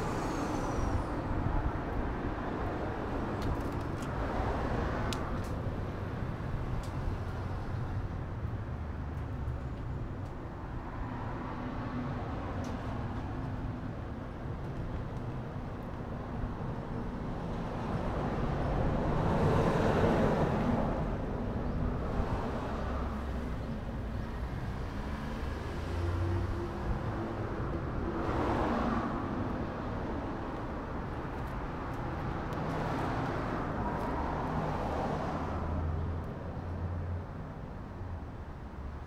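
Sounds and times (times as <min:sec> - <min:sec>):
steady traffic hum: 0:00.0 - 0:39.0
vehicles passing by: 0:00.0 - 0:39.0.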